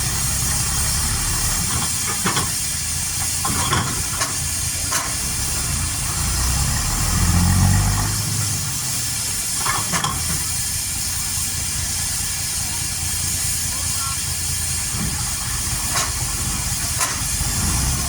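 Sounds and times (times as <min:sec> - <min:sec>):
low engine rumble: 0:00.0 - 0:18.0
steam hissing: 0:00.0 - 0:18.0.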